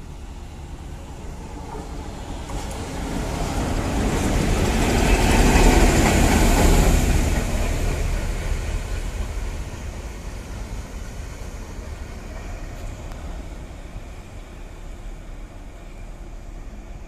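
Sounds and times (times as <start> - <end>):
diesel train passing: 0.0 - 17.0.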